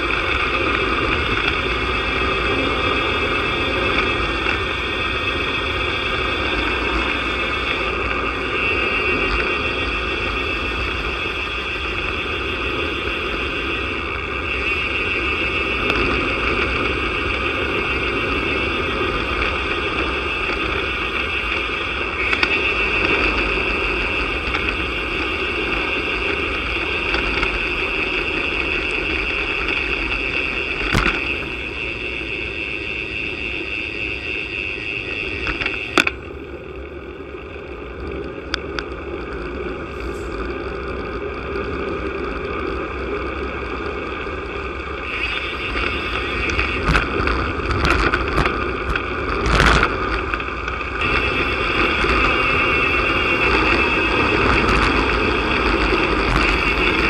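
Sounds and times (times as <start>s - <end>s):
tyre noise on road: 0.0s - 57.0s
wind rushing over camera: 0.0s - 57.0s.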